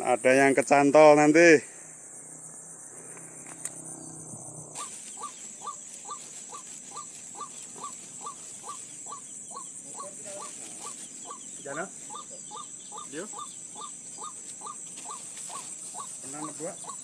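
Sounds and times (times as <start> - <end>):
high drone of insects: 0.0 - 17.0.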